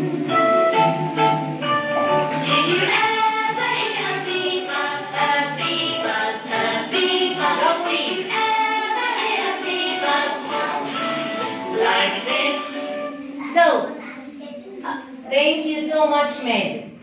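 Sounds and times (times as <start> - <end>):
children's song with voices singing: 0.0 - 16.1.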